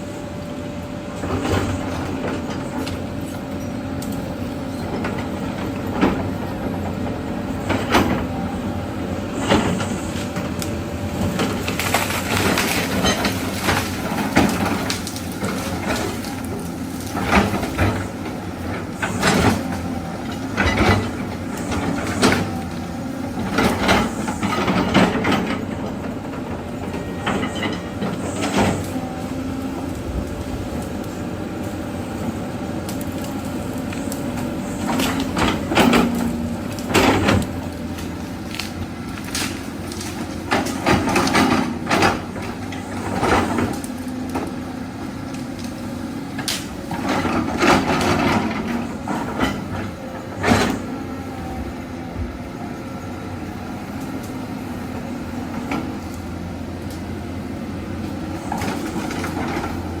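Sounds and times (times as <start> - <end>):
heavy diesel engine running: 0.0 - 60.0.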